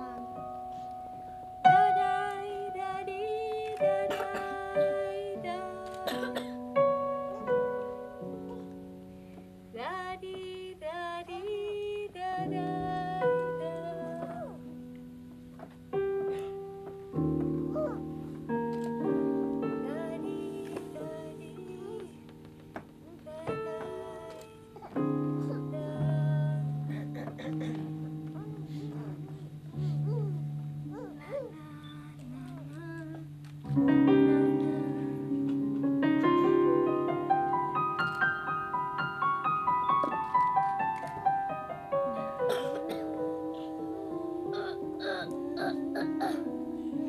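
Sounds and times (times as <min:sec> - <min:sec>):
keyboard playing held chords: 0:00.0 - 0:09.8, 0:12.4 - 0:47.0.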